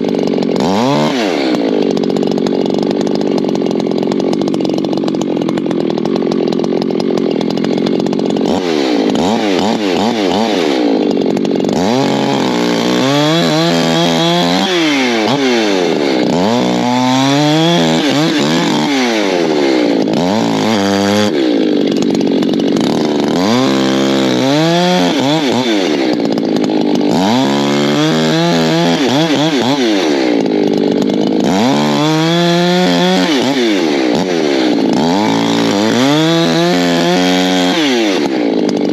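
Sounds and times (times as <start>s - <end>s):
chainsaw cutting logs: 0.0s - 38.9s.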